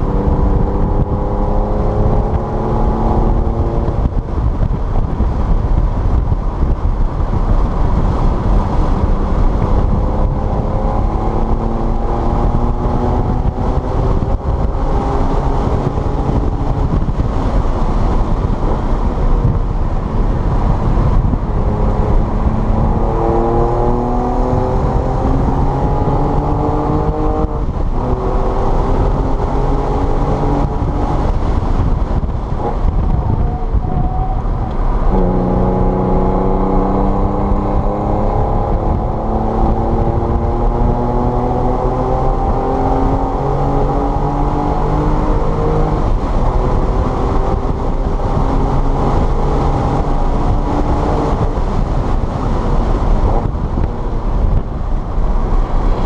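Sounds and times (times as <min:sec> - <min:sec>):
car engine pulling hard: 0:00.0 - 0:56.0
road and wind noise: 0:00.0 - 0:56.0.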